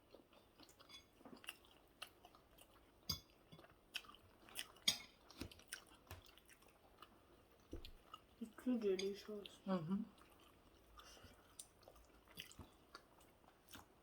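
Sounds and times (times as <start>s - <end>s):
person chewing: 0.0s - 8.4s, 9.5s - 14.0s.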